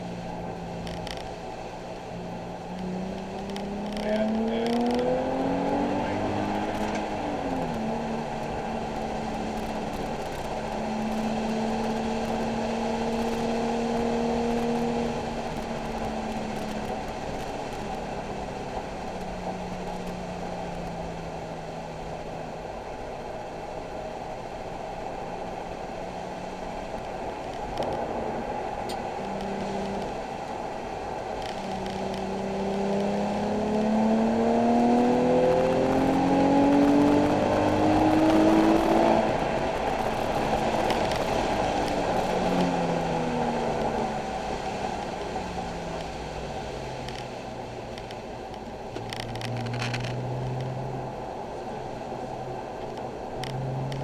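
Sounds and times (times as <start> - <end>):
car engine revving: 0.0 - 22.8, 24.8 - 54.0
road and tyre noise: 0.0 - 54.0.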